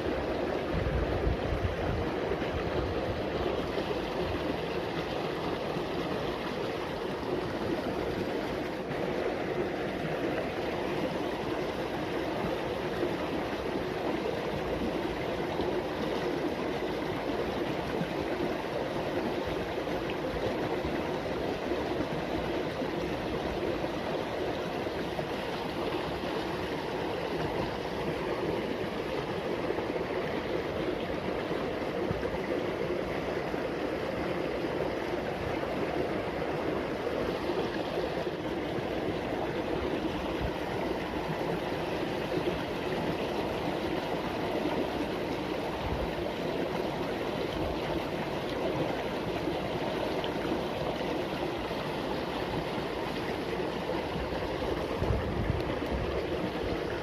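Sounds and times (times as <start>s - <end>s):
water flowing in a ditch: 0.0s - 57.0s.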